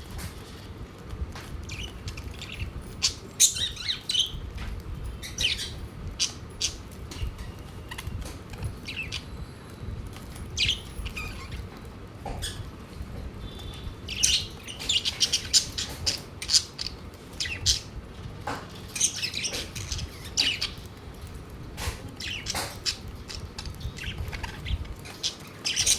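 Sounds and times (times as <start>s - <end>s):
budgerigars chirping and squawking: 1.6s - 9.4s, 10.5s - 12.8s, 13.4s - 25.9s.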